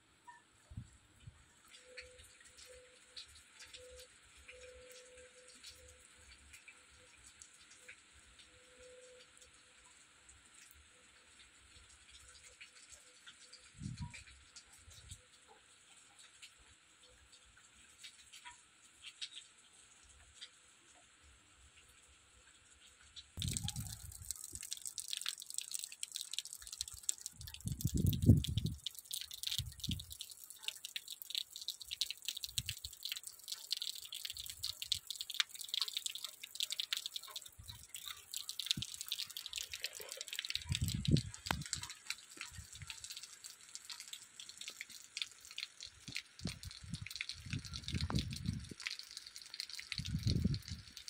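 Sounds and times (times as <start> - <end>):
rain pattering: 1.4 - 51.0.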